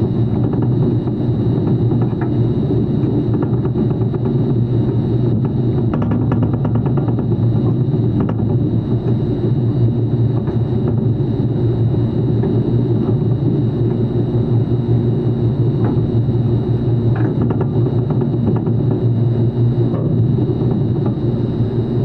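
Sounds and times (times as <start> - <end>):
low machine hum and rumble: 0.0 - 22.0.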